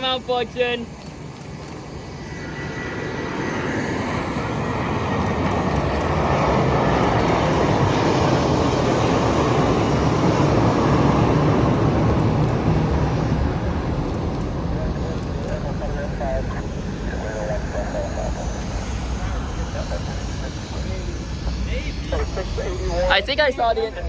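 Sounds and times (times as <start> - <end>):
faint high whine: 0.0 - 10.8, 11.8 - 24.0
jet engines rushing: 0.0 - 24.0.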